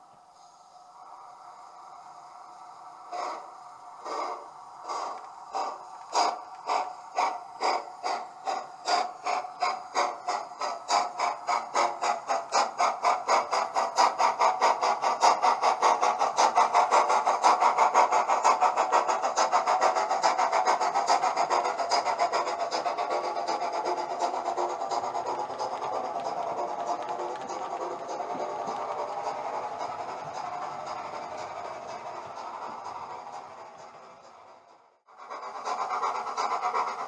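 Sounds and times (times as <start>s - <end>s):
steam locomotive exhaust chuffs: 0.0s - 37.0s.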